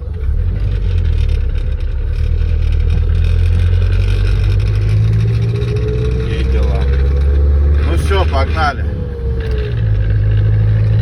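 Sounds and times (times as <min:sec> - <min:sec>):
road noise: 0:00.0 - 0:11.0
truck engine running: 0:00.0 - 0:11.0.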